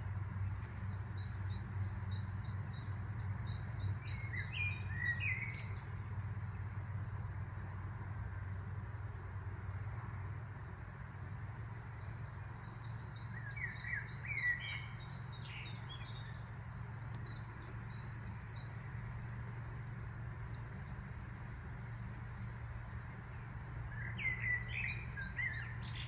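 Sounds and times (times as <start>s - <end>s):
low steady hum: 0.0s - 26.0s
songbird song phrases: 0.0s - 26.0s.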